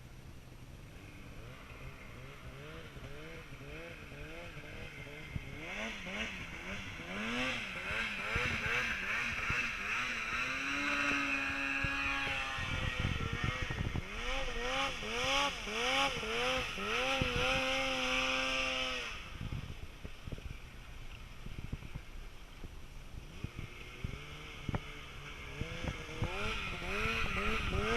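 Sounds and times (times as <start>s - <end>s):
faint wind noise: 0.0s - 27.9s
snowmobile engine revving: 0.9s - 20.6s, 23.1s - 27.9s.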